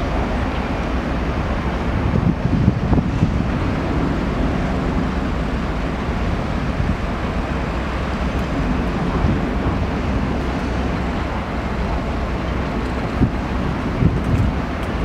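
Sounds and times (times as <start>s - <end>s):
jet engines rumbling: 0.0s - 15.0s
wind on microphone: 0.0s - 15.0s.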